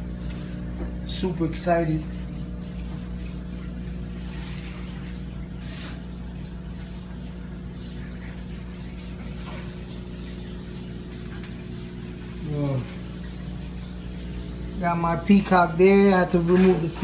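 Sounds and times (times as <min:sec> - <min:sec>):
aquarium equipment hum: 0:00.0 - 0:17.0.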